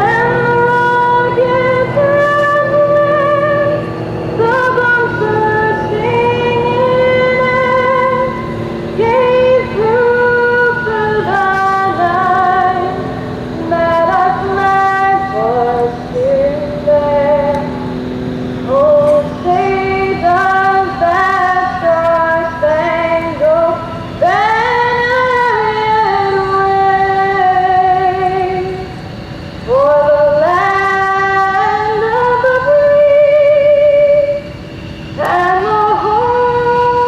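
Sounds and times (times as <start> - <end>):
faint low drone: 0.0 - 37.0
woman singing with vibrato: 0.0 - 37.0.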